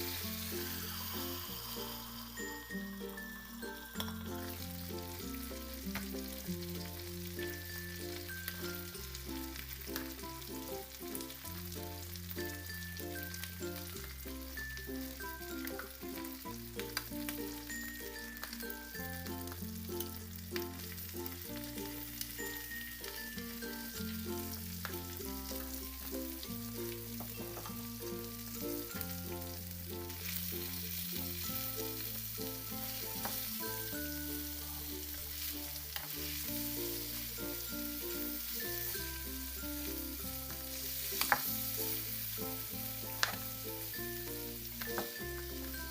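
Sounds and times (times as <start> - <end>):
food sizzling in small pan: 0.0 - 45.9.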